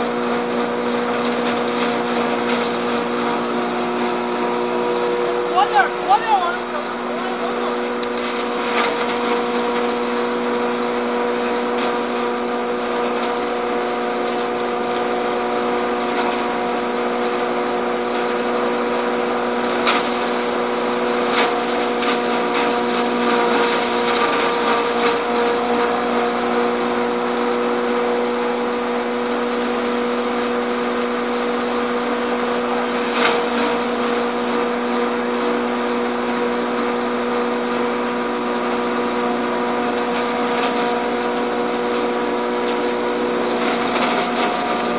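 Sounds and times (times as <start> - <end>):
hammer mill humming and whining: 0.0 - 44.9.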